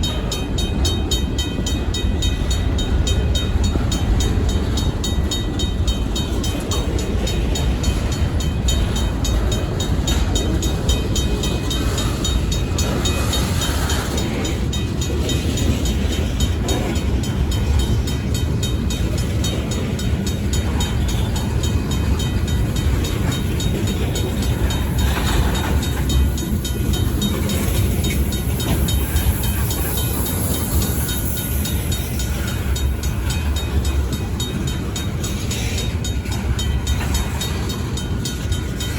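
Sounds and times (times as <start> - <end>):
crossing bell ringing: 0.0 - 38.9
diesel train rumble: 0.0 - 38.9
train wheel and car noise: 0.0 - 38.9.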